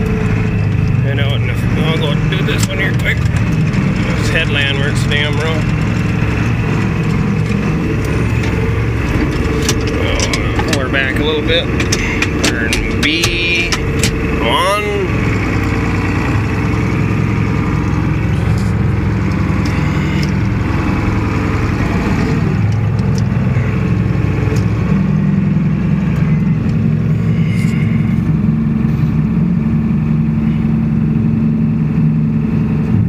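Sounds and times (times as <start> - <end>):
tractor diesel engine droning: 0.0 - 33.0.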